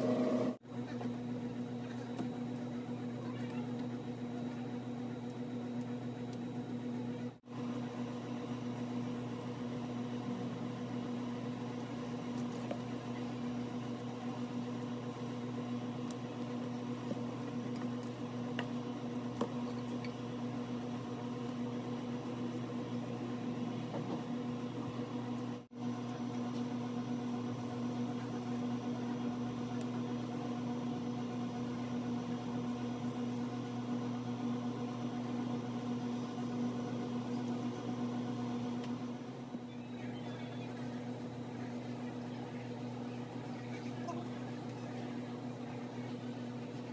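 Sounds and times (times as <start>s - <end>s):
electric motor hum: 0.0s - 46.9s.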